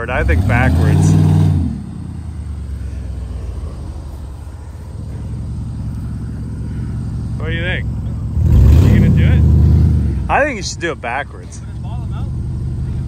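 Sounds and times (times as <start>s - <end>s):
pickup truck engine rumbling: 0.0s - 13.0s.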